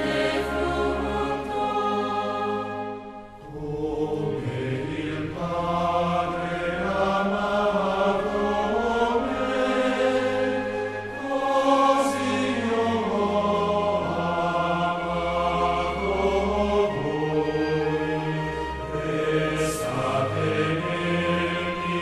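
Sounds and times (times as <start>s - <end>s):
choir chanting sustained notes: 0.0s - 22.0s.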